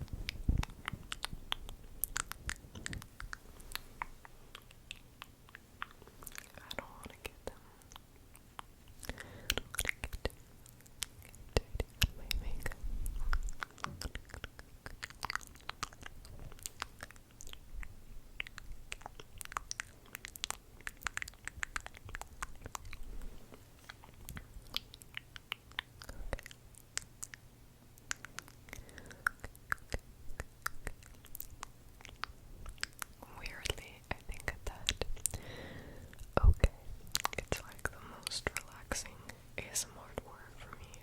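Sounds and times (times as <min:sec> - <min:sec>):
wet lip and tongue clicks: 0:00.0 - 0:41.0.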